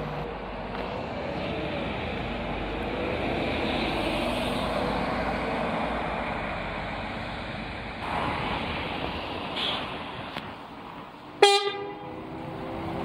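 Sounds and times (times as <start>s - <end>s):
bus diesel engine accelerating: 0.0s - 13.0s.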